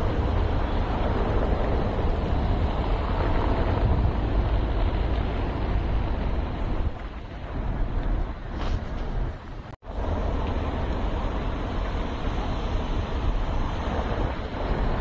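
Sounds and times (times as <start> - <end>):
city traffic hum: 0.0 - 15.0
wind buffeting microphone: 0.0 - 15.0.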